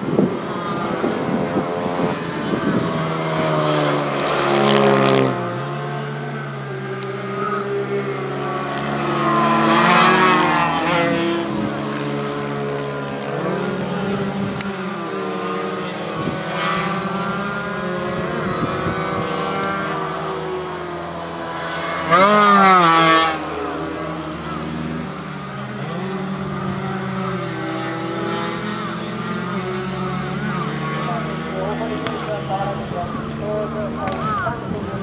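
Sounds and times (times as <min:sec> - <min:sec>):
racing motorcycles revving past: 0:00.0 - 0:35.0.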